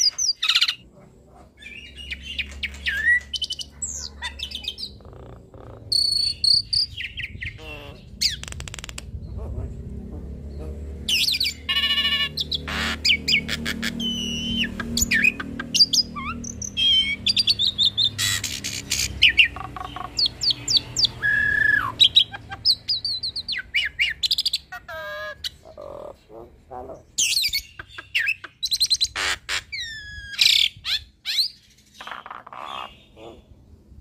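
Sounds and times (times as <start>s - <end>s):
starling singing: 0.0s - 0.9s, 1.6s - 9.6s, 10.5s - 33.6s.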